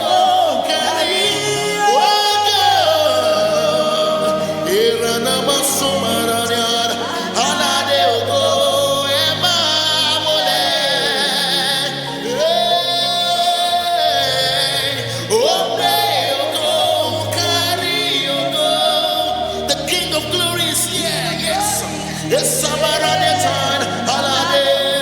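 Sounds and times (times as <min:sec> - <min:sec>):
gospel instrumental backing: 0:00.0 - 0:25.0
person singing wordless ad-lib: 0:00.0 - 0:25.0.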